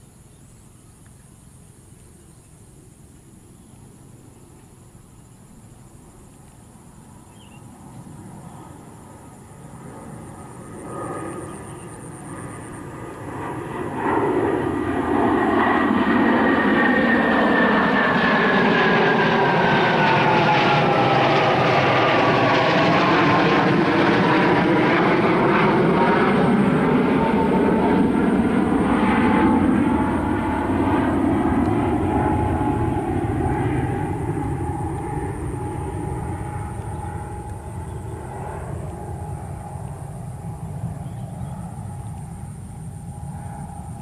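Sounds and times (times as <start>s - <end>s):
jet engine whine falling in pitch: 3.4s - 44.0s
fighter jets passing overhead: 6.1s - 44.0s.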